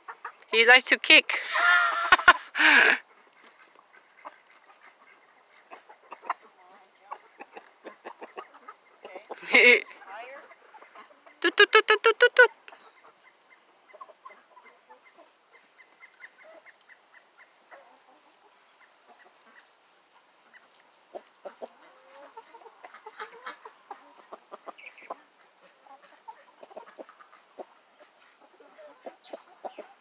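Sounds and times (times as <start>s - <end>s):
chickens pecking and scratching: 0.0s - 0.5s, 2.0s - 11.4s, 12.2s - 30.0s
chickens clucking: 0.0s - 30.0s.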